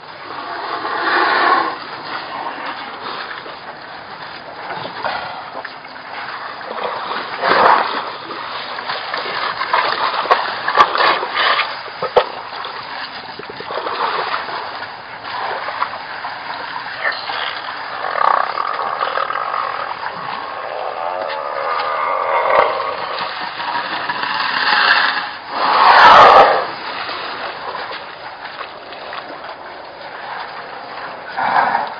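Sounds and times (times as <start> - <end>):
elephants splashing in water: 0.2 - 31.9.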